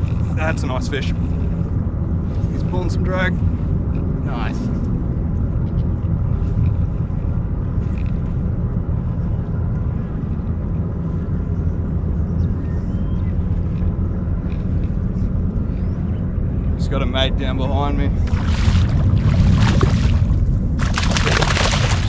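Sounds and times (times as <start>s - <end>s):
boat motor rumbling: 0.0s - 22.0s.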